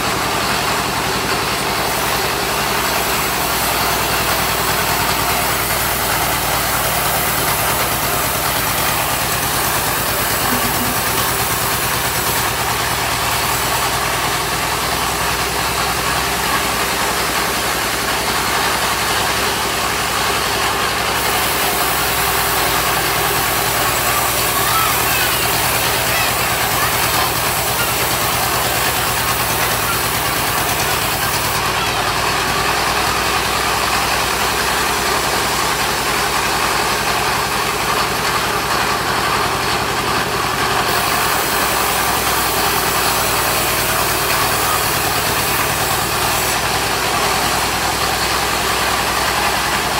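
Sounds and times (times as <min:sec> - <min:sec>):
band sawmill engine running: 0:00.0 - 0:49.9.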